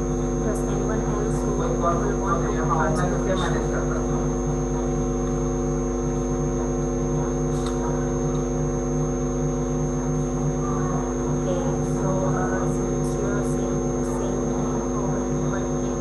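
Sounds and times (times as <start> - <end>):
electrical hum and buzz: 0.0 - 16.0
thin high whine: 0.0 - 16.0.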